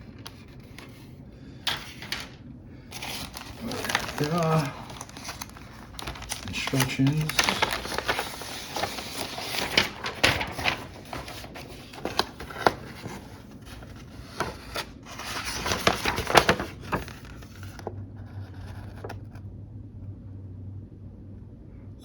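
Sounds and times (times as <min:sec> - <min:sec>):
paper rustling: 0:00.0 - 0:19.4.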